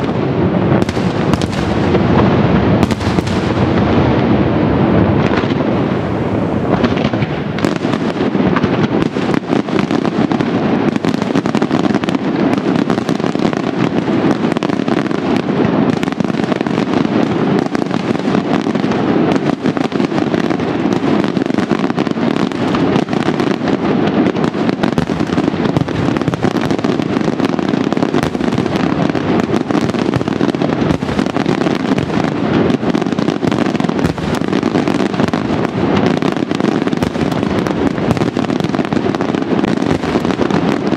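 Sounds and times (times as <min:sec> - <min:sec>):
firecrackers crackling: 0:00.0 - 0:40.9
fireworks explosions: 0:00.0 - 0:40.9.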